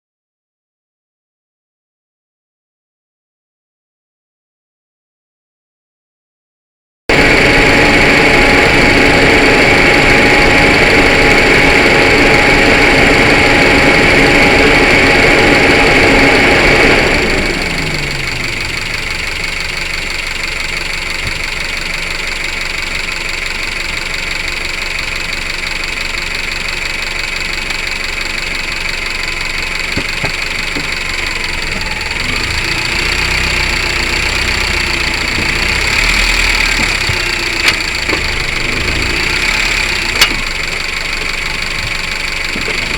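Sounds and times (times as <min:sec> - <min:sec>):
car engine running: 0:07.1 - 0:42.9.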